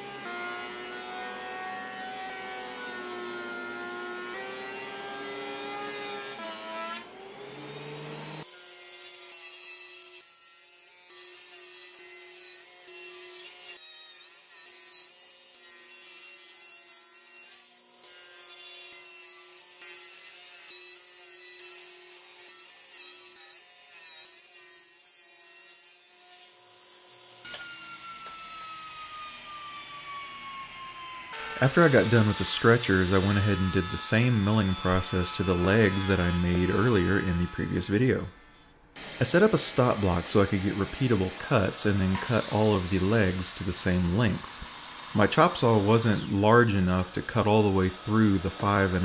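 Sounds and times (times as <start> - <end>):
table saw cutting wood: 0.0 - 49.0.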